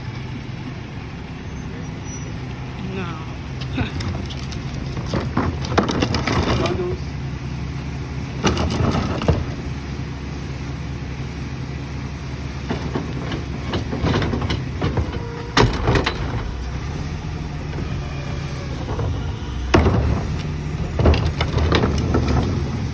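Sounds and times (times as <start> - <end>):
garbage truck engine running: 0.0 - 22.9.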